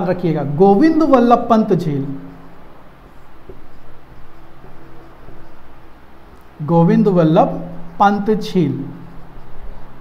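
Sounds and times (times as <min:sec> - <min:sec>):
marker writing on whiteboard: 0:00.7 - 0:10.0.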